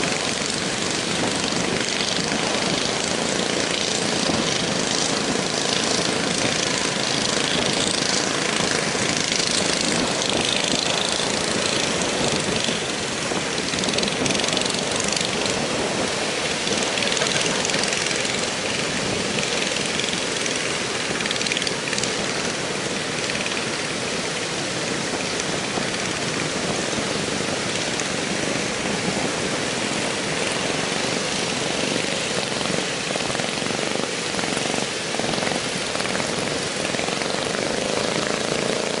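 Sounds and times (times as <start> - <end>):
heavy surf breaking: 0.0 - 39.0
wind rushing over microphone: 0.0 - 39.0.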